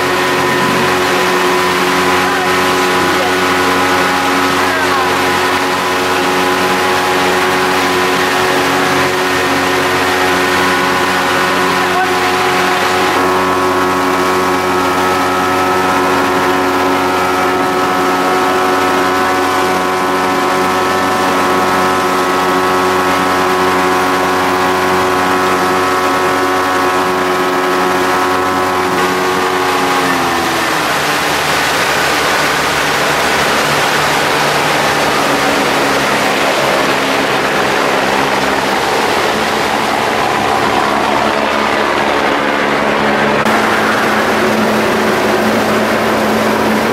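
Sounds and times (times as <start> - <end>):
even rushing noise: 0.0 - 21.3, 28.6 - 46.9
vehicle engine running: 0.0 - 46.9.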